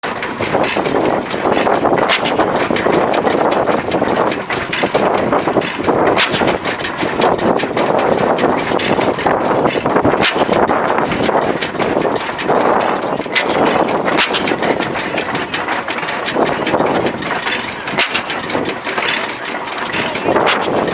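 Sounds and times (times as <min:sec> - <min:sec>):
machinery clattering: 0:00.0 - 0:20.9.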